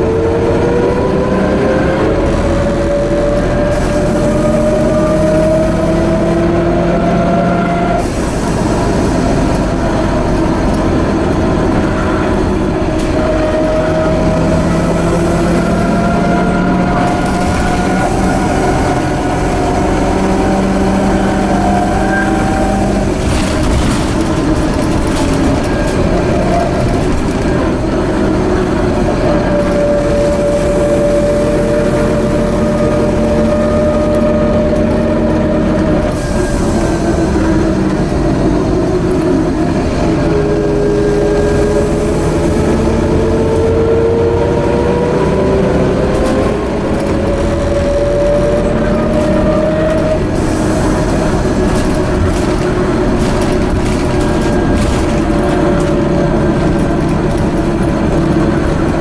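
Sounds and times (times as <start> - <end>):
bus drivetrain rumble: 0.0 - 59.0.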